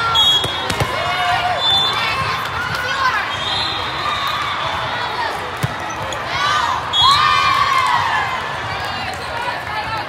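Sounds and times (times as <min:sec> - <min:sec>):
crowd of young voices cheering: 0:00.0 - 0:10.0.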